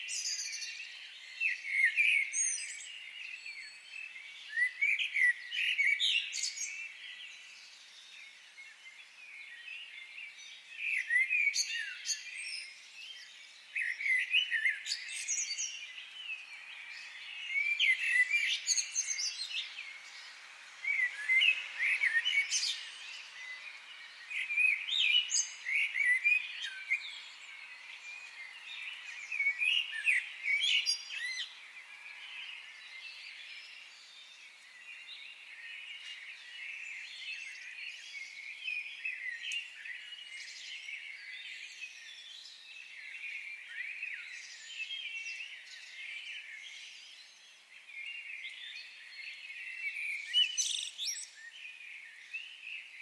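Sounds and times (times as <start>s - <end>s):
birds chirping and trilling: 0.0s - 53.0s
faint steady hiss: 0.0s - 53.0s.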